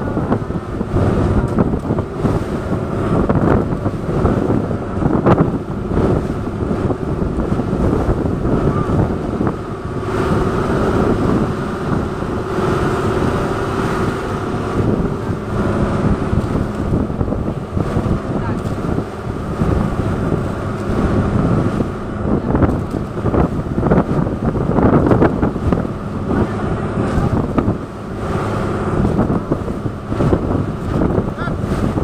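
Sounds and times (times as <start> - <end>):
motorboat engine running: 0.0 - 32.0
water rushing past: 0.0 - 32.0
wind buffeting microphone: 0.0 - 32.0.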